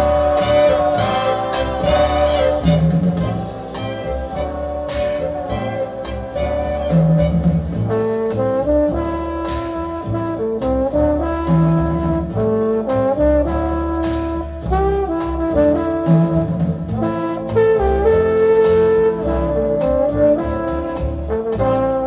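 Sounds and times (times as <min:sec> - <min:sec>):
big-band jazz with trombone: 0:00.0 - 0:22.0.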